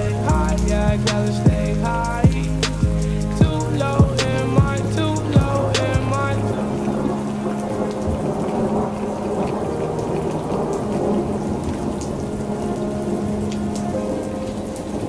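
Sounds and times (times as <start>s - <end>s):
steady rain falling: 0.0s - 15.0s
thunder rumbling: 0.0s - 15.0s.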